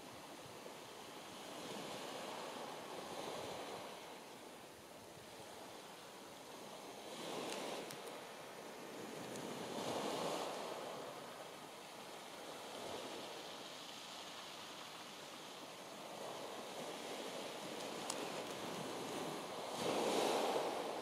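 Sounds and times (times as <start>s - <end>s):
sea waves washing onto beach: 0.0s - 21.0s.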